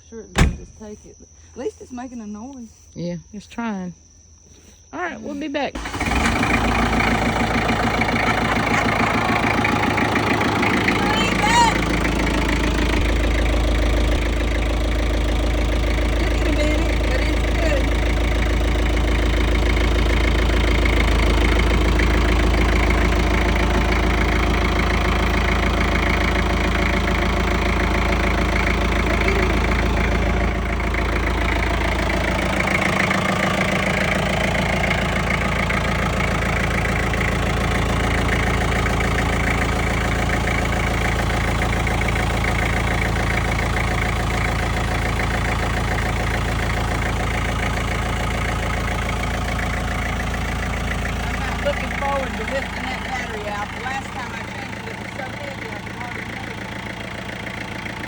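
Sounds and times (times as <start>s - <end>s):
engine idling: 0.0s - 1.8s, 4.5s - 58.0s.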